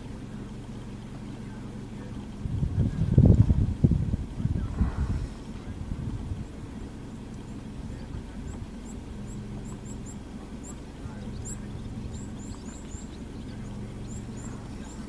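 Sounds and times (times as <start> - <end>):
small birds chirping: 0.0 - 3.3, 4.2 - 15.0
vehicle engine idling: 0.0 - 15.0.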